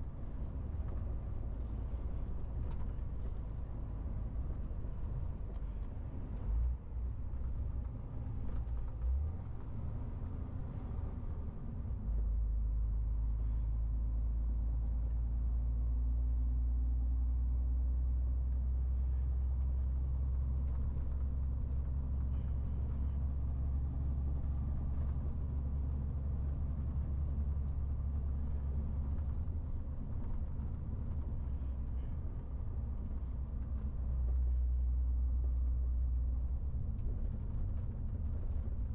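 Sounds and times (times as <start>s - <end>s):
road rumble: 0.0s - 38.9s.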